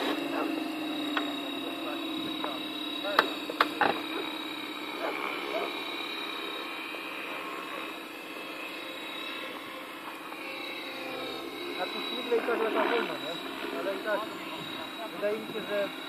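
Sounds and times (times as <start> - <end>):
electric motor whine: 0.0 - 16.0
helicopter rotor hum: 0.0 - 16.0.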